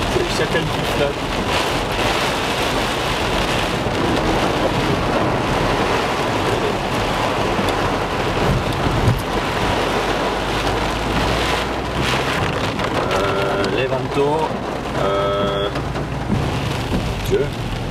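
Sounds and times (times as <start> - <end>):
car driving through mud and water: 0.0 - 17.9
heavy rain drumming on car roof: 0.0 - 17.9.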